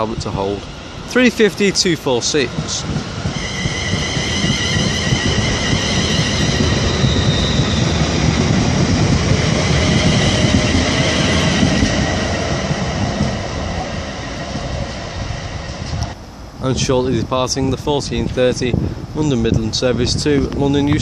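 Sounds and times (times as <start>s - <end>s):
train high whine: 0.0s - 19.5s
train wheels rumbling on rail: 0.0s - 21.0s.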